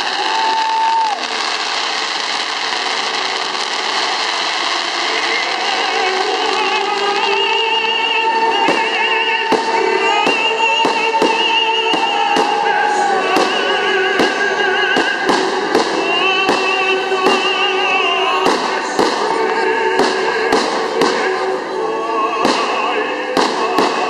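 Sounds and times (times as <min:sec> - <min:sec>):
fireworks bursting: 0:00.0 - 0:24.0
music with singing voice: 0:04.2 - 0:24.0.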